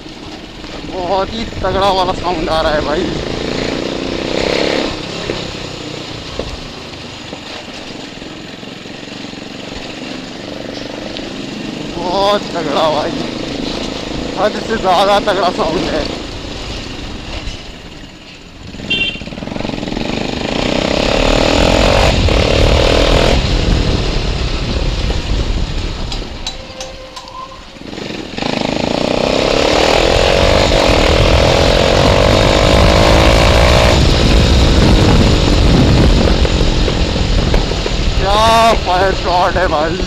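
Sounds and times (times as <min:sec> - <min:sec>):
motorcycle engine revving: 0:00.6 - 0:26.3, 0:27.7 - 0:40.0.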